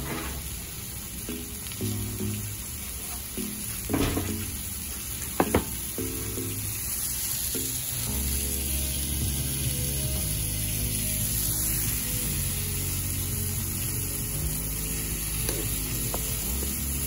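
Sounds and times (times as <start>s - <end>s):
mushrooms sizzling in a skillet: 0.0s - 17.0s.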